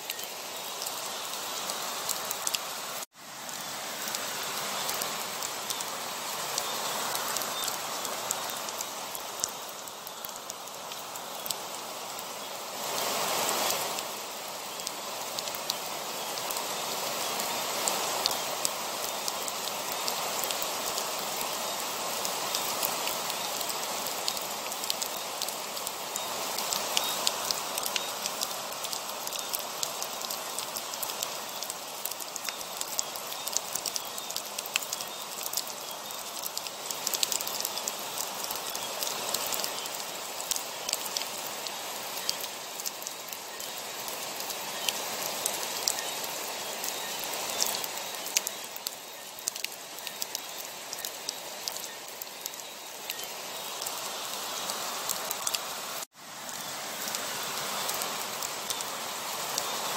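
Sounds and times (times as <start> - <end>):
heavy rain falling: 0.0 - 59.9
raindrops ticking on a surface: 0.0 - 59.9.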